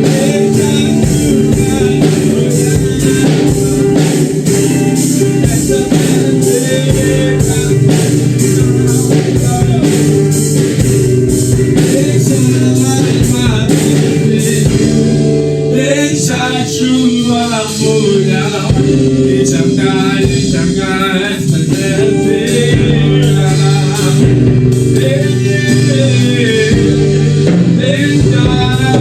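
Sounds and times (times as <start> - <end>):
band playing: 0.0 - 29.0
person singing: 0.0 - 29.0.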